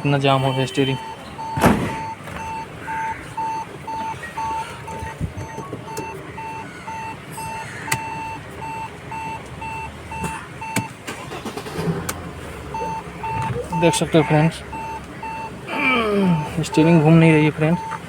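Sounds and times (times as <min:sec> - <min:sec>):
car engine running: 0:00.0 - 0:18.0
dashboard warning chime beeping: 0:00.0 - 0:18.0.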